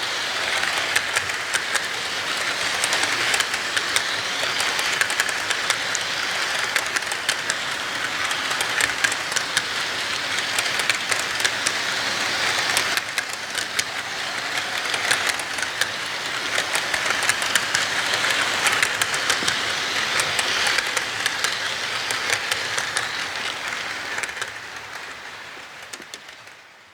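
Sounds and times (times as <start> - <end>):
train wheels on track: 0.0 - 26.9.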